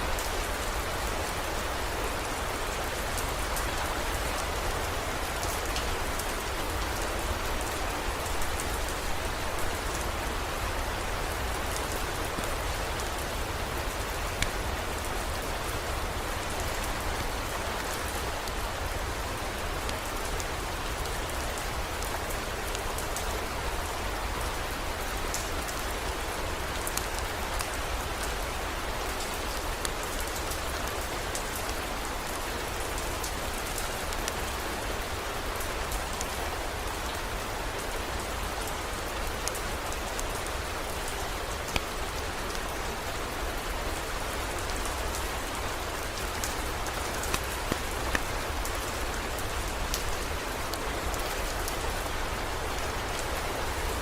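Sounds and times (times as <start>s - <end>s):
heavy rain with drop ticks: 0.0s - 54.0s.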